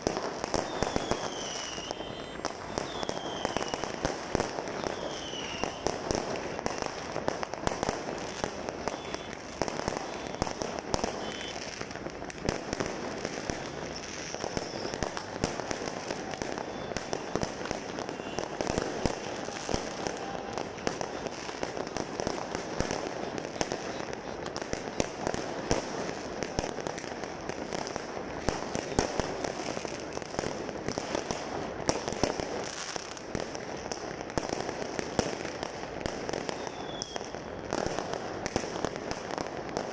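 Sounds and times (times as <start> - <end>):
fireworks crackling and banging: 0.0 - 39.9
loud firework cracks: 0.0 - 39.9.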